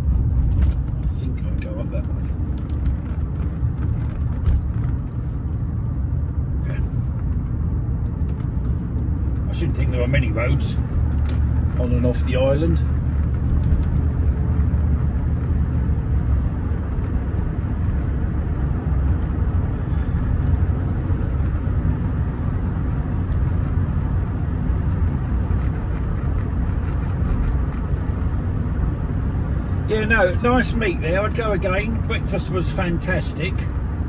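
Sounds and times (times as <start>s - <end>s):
car engine low drone: 0.0s - 34.0s
road noise: 0.0s - 34.0s.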